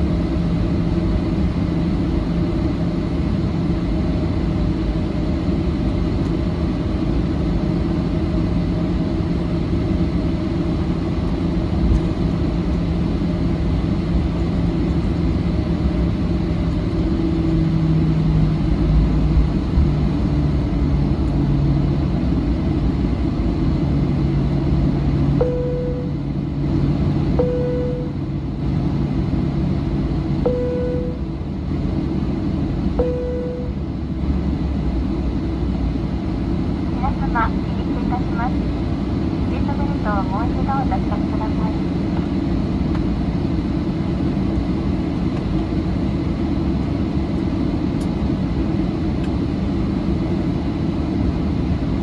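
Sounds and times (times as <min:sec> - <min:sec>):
aircraft rolling rumble: 0:00.0 - 0:52.0
jet engines humming: 0:00.0 - 0:52.0.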